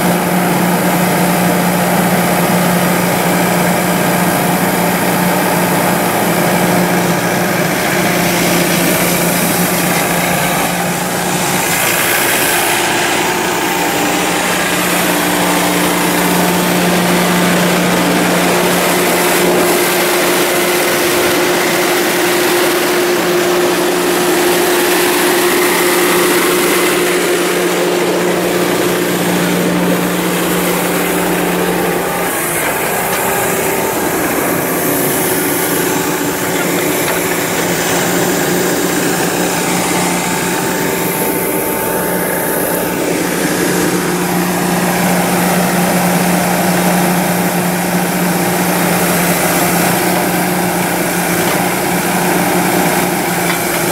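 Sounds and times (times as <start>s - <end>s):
drill engine running: 0.0s - 53.9s.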